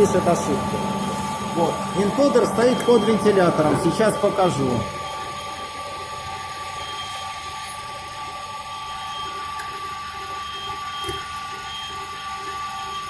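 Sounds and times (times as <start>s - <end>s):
constant high hum: 0.0s - 11.2s.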